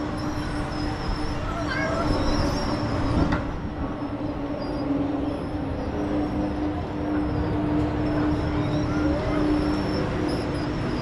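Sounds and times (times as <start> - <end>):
amusement ride mechanical rumble: 0.0 - 11.0.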